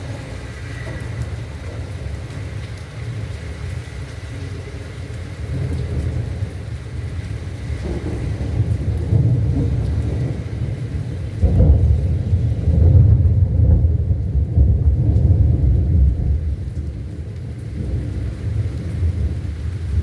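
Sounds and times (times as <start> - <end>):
rain falling: 0.0 - 20.0
thunder rumbling: 0.0 - 20.0.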